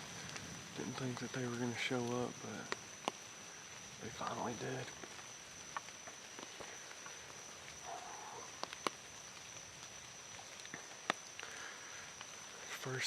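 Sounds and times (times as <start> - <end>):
faint hiss: 0.0 - 13.0
high insect drone: 0.0 - 13.0.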